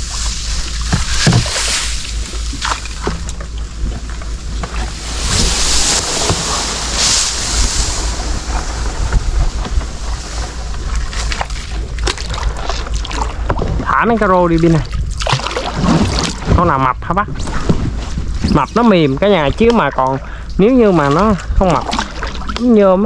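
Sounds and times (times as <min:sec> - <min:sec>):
wind buffeting microphone: 0:00.0 - 0:22.8
water sloshing and splashing: 0:00.0 - 0:23.0.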